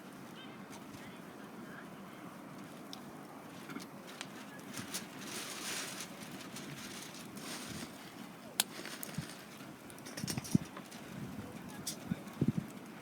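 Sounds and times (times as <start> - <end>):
wood fire crackling and popping: 2.6 - 13.0.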